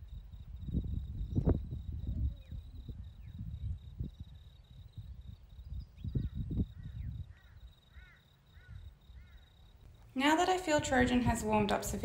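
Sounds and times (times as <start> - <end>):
high insect trill: 0.0 - 10.4.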